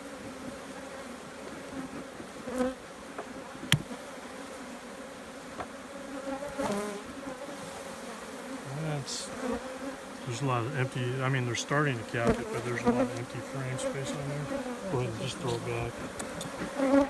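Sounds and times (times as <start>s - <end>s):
honeybees buzzing: 0.1s - 17.0s.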